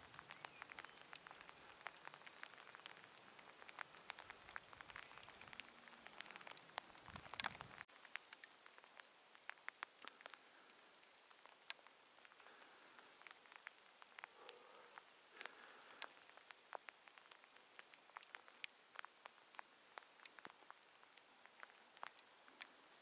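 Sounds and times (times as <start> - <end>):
faint outdoor hush: 0.0 - 23.0
small ticks: 0.0 - 23.0.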